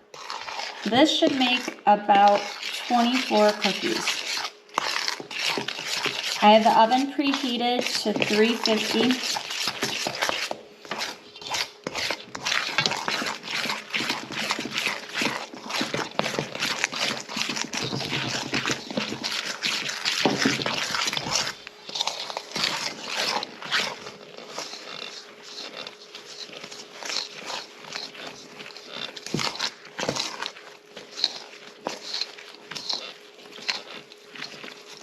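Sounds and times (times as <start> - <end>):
spoon scraping dough in bowl: 0.0 - 35.0.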